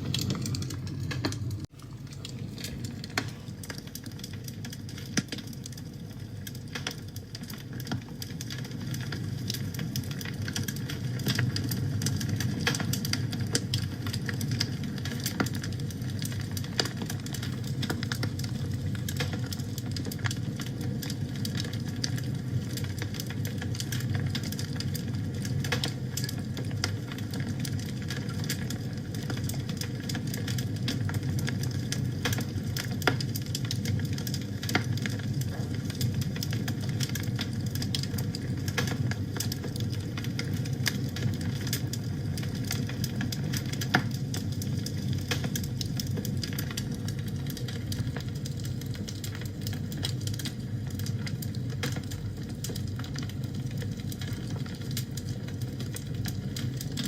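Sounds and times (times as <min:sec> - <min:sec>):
sharp pops of fire: 0:00.0 - 0:57.0
wood fire crackling: 0:00.0 - 0:57.0.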